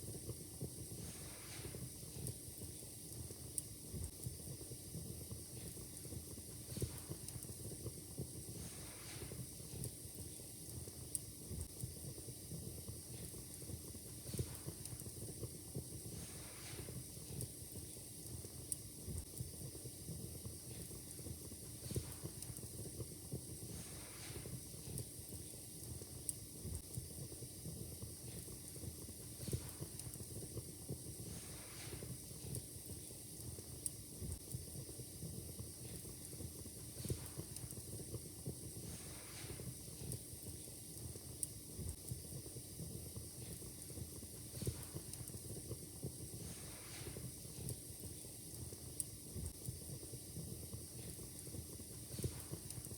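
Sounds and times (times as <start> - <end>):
fire crackling and popping: 0.0 - 52.9
steady fire hiss: 0.0 - 52.9.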